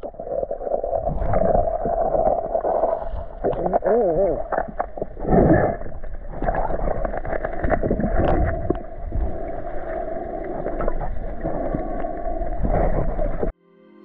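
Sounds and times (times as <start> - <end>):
muffled underwater rumble: 0.0 - 13.5.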